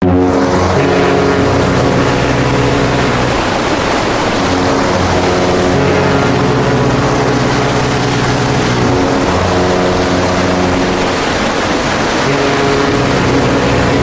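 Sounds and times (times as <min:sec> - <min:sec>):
boat engine drone: 0:00.0 - 0:14.0
rushing water around boat: 0:00.0 - 0:14.0.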